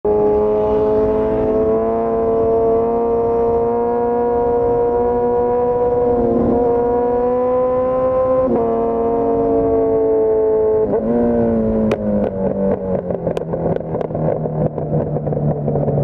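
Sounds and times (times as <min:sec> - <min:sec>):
motorcycle engine drone: 0:00.0 - 0:16.0.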